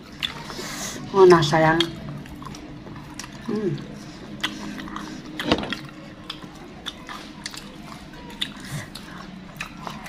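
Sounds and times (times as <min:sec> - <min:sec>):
chewing and biting food: 0:00.0 - 0:01.0, 0:01.6 - 0:10.0.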